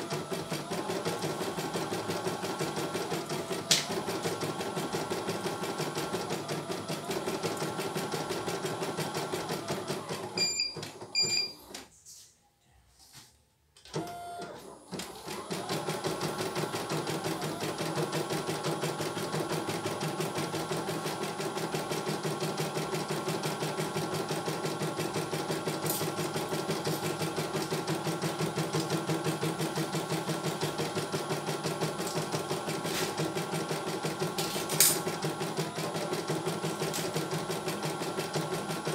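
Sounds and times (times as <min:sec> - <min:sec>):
embroidery machine stitching: 0:00.0 - 0:11.1, 0:13.9 - 0:38.9.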